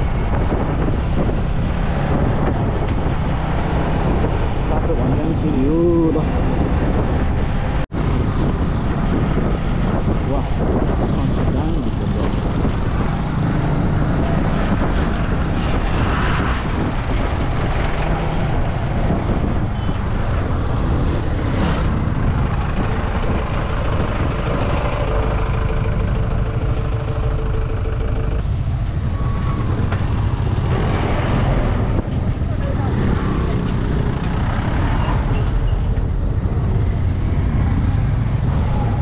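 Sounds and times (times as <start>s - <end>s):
motorcycle engine and road noise: 0.0s - 39.0s.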